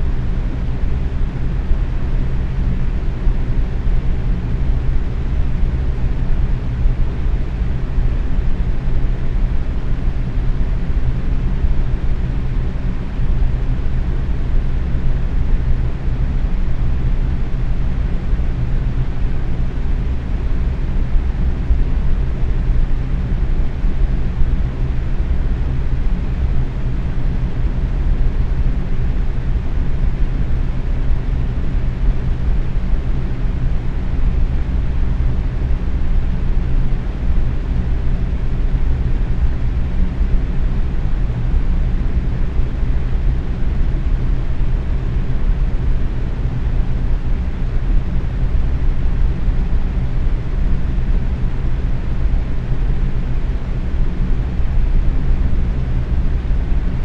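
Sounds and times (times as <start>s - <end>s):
box fan running: 0.0s - 57.0s.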